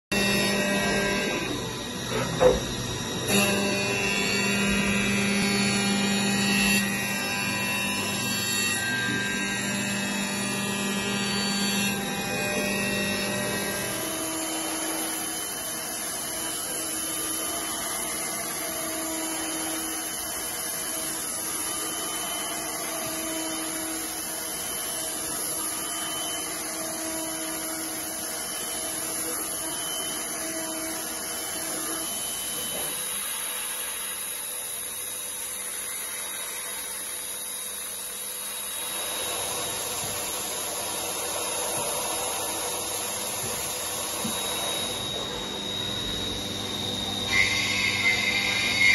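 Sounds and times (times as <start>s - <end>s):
milling machine cutting: 0.1s - 48.9s.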